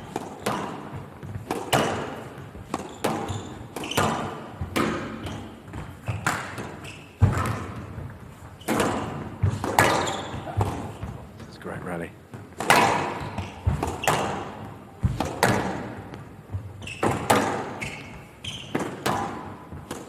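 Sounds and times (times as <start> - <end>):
squash ball hitting rackets and walls: 0.0 - 11.6, 12.2 - 20.0.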